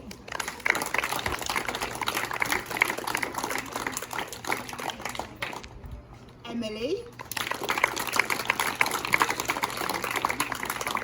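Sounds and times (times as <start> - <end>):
hands clapping: 0.0 - 5.8, 7.2 - 11.0.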